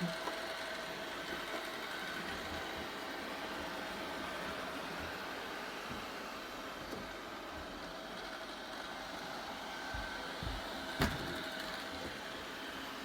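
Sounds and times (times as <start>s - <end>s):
robot vacuum cleaner running: 0.0s - 13.0s.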